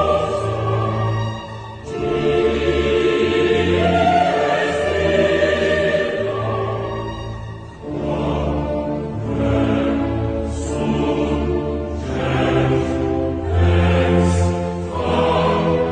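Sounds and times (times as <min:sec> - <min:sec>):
choir singing held notes: 0:00.0 - 0:15.9
low sustained accompaniment: 0:00.0 - 0:15.9.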